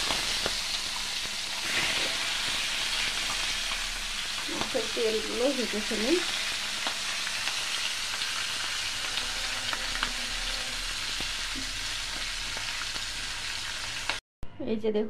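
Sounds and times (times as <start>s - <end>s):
oil crackles and pops: 0.0s - 10.2s, 11.0s - 14.2s
fish frying in oil: 0.0s - 14.2s.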